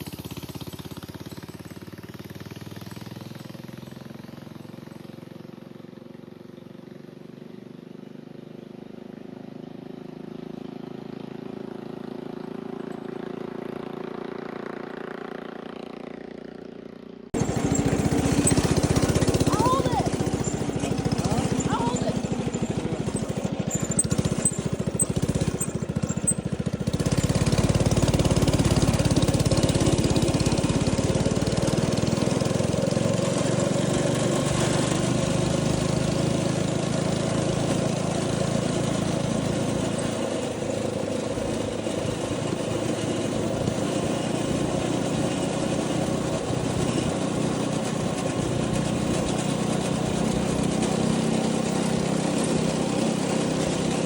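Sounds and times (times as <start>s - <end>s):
small go-kart engine running: 0.0s - 54.0s.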